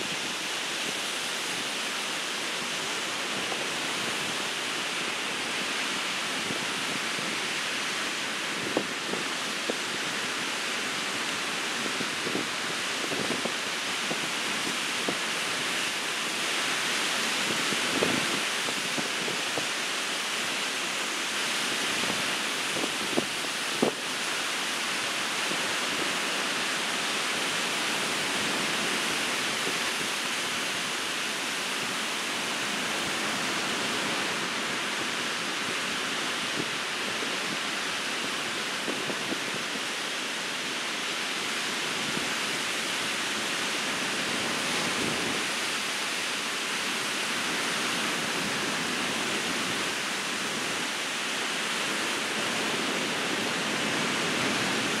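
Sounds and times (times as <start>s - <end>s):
ocean surf breaking: 0.0s - 55.0s.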